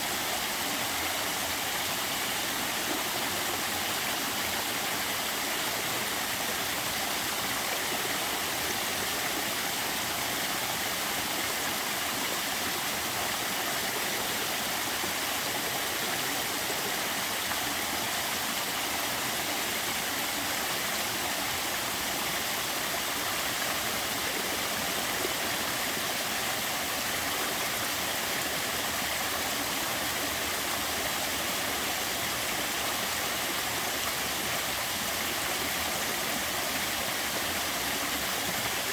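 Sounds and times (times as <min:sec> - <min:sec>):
small waterfall rushing: 0:00.0 - 0:38.9.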